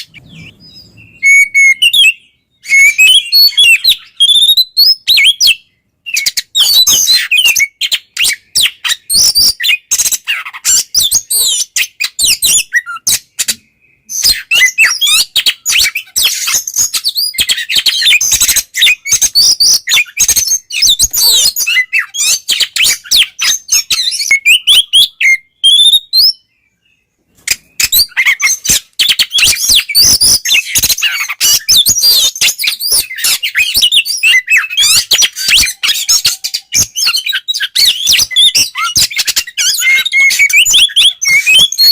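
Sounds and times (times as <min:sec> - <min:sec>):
bird song with whistles and trills: 0:00.0 - 0:41.9.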